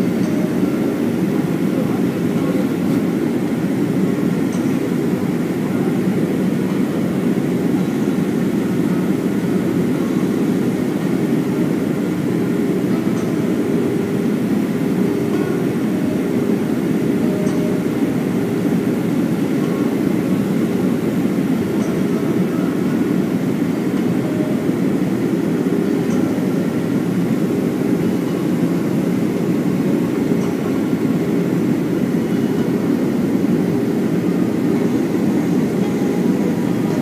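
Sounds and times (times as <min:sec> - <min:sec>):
airplane cabin noise: 0:00.0 - 0:37.0.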